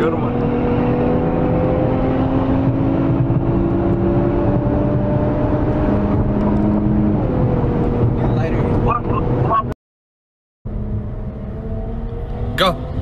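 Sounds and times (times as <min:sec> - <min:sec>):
car engine droning: 0:00.0 - 0:09.7, 0:10.7 - 0:13.0
road and wind noise: 0:00.0 - 0:09.8, 0:10.7 - 0:13.0.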